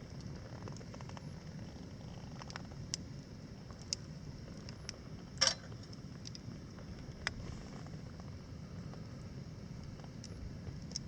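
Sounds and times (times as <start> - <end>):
campfire rumbling: 0.0 - 11.0
fire crackles: 0.0 - 11.0.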